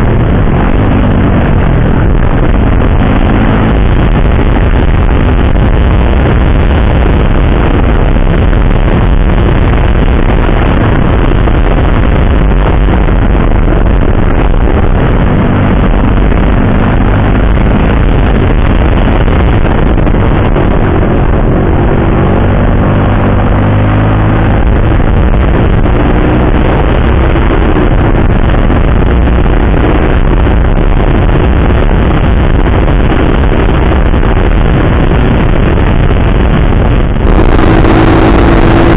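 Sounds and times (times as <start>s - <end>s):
motorcycle engine revving: 0.0s - 38.9s
wind rush over microphone: 0.0s - 38.9s.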